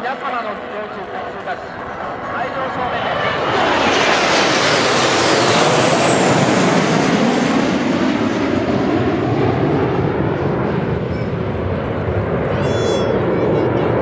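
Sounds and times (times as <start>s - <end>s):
jet aircraft roar and whine: 0.0s - 14.0s.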